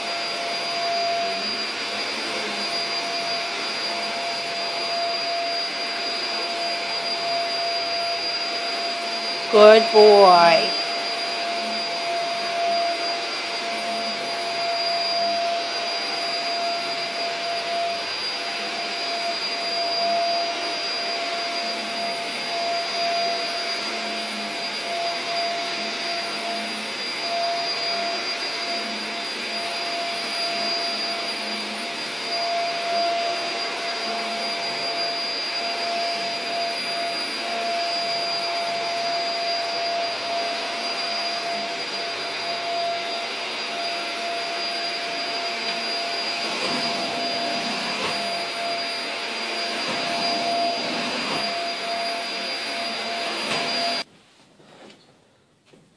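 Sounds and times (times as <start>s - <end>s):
vacuum cleaner running: 0.0s - 54.1s.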